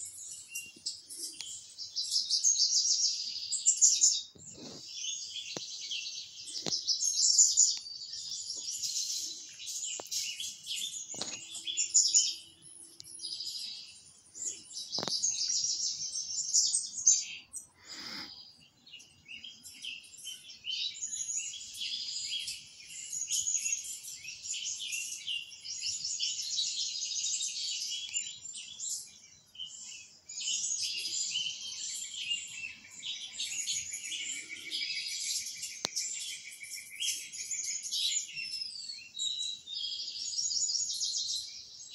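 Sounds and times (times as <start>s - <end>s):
songbirds chirping on television: 0.0s - 41.9s.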